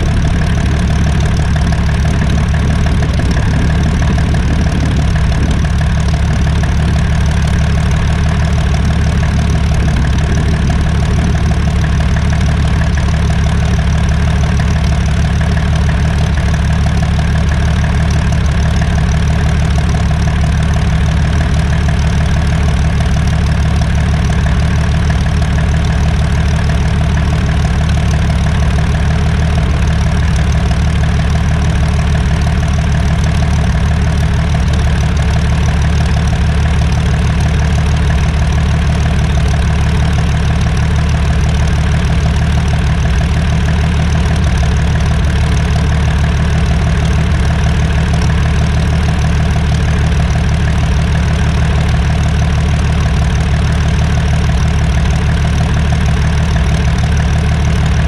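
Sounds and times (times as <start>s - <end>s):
aircraft engine idling: 0.0s - 58.0s.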